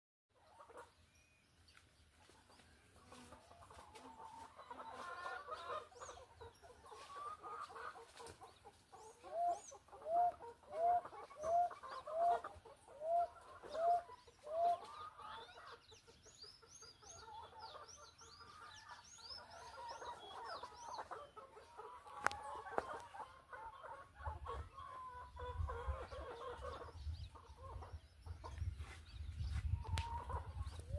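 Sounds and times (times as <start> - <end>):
small birds chirping: 0.3 - 30.9
chickens clucking: 0.4 - 1.2, 2.2 - 30.9.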